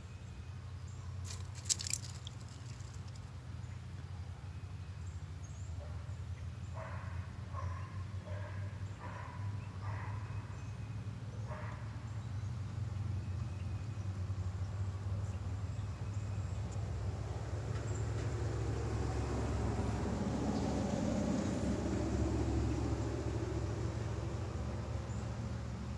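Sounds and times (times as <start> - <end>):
low outdoor rumble: 0.0 - 25.9.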